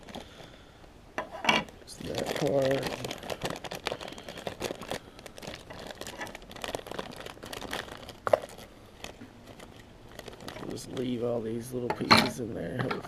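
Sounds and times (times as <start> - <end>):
plastic bag crinkling: 0.0 - 0.7, 1.6 - 13.0.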